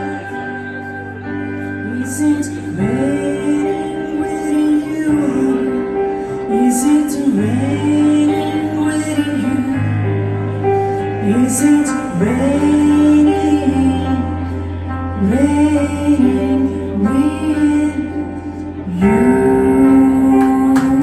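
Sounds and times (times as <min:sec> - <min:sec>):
piano notes: 0:00.0 - 0:21.0
woman singing: 0:00.0 - 0:21.0.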